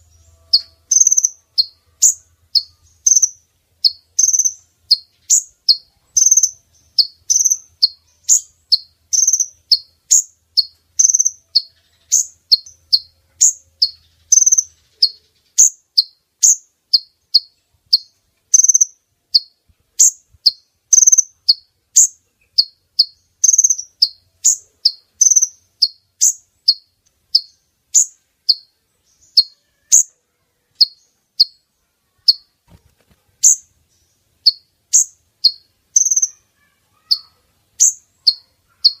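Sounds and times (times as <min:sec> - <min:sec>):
high sharp bird chirps: 0:00.0 - 0:30.1, 0:30.7 - 0:32.6, 0:33.4 - 0:33.7, 0:34.4 - 0:39.0.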